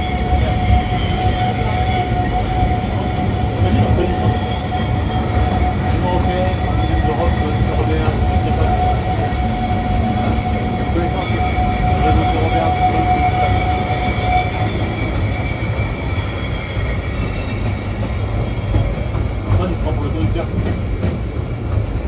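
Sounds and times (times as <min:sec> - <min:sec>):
tramcar rumbling along track: 0:00.0 - 0:22.0.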